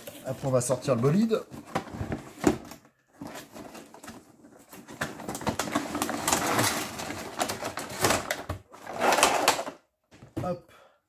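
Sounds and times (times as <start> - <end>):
cardboard scraping and rustling: 0.0 - 9.7.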